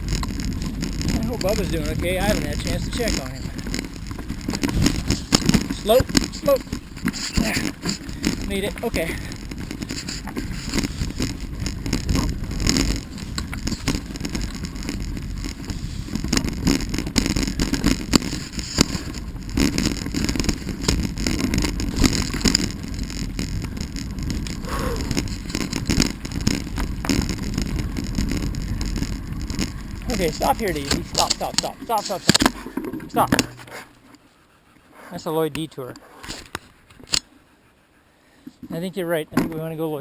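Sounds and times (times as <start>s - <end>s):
wind buffeting microphone: 0.0s - 34.6s
rumble of riding on dirt trail: 0.0s - 40.0s.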